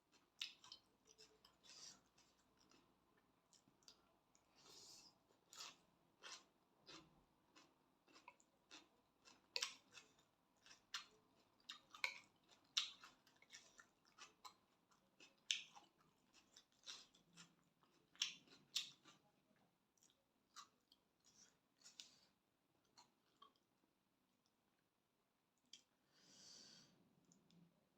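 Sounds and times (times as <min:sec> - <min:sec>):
person chewing food: 0:00.0 - 0:23.8.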